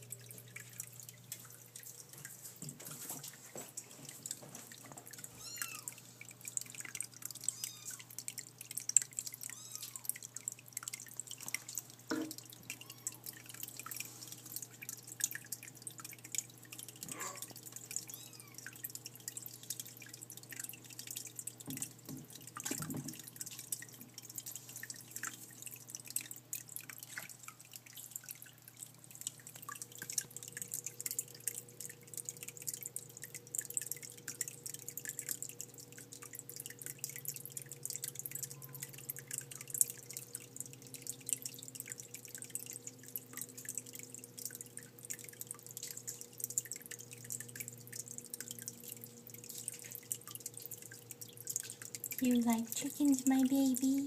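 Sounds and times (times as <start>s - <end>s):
low steady hum: 0.0s - 54.0s
water dripping and trickling: 0.0s - 54.0s.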